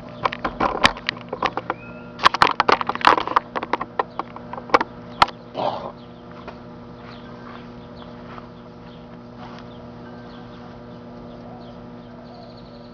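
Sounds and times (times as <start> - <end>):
microwave oven hum: 0.0 - 12.9.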